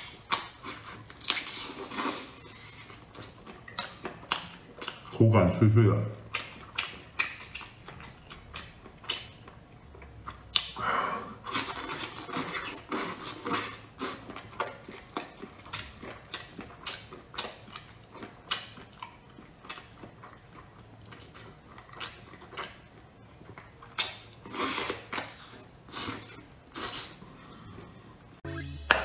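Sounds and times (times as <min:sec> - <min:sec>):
chewing crunchy food: 0:00.0 - 0:05.5, 0:06.1 - 0:28.2.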